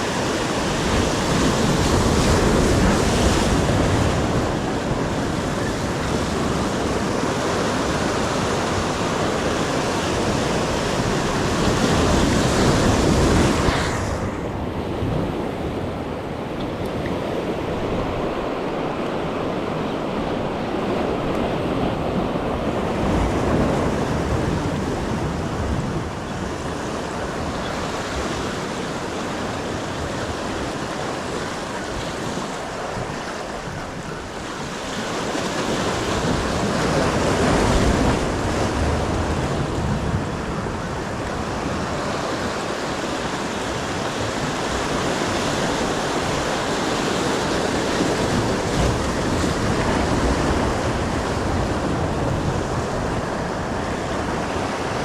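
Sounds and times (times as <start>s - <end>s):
waves washing on shoreline: 0.0s - 55.0s
wind buffeting microphone: 0.0s - 55.0s.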